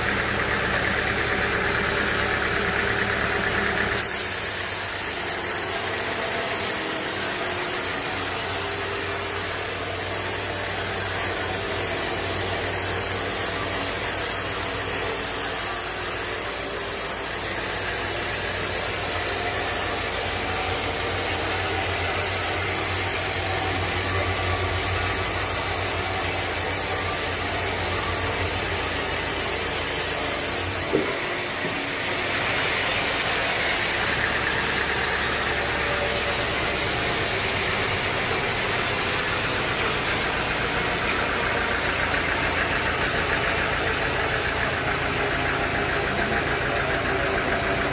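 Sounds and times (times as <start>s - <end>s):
sawmill machinery humming and hissing: 0.0s - 47.9s.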